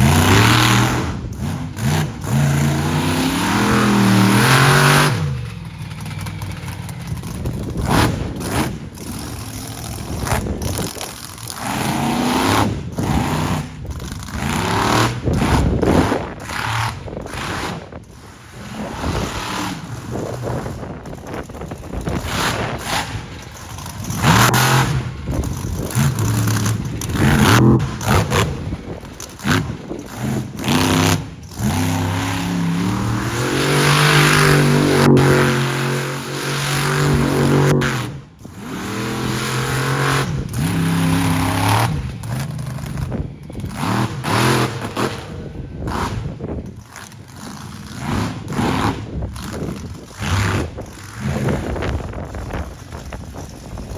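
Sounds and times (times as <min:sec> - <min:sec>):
truck engine revving hard: 0:00.0 - 0:53.9.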